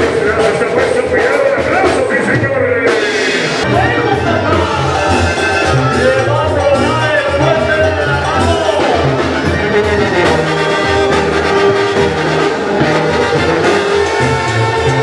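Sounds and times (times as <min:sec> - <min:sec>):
brass band music: 0:00.0 - 0:15.0.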